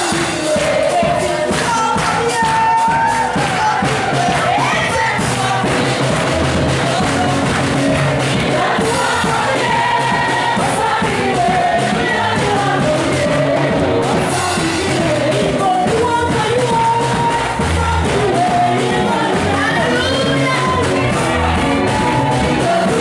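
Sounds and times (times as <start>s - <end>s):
band playing with steady beat: 0.0s - 23.0s
voices singing together: 0.0s - 23.0s.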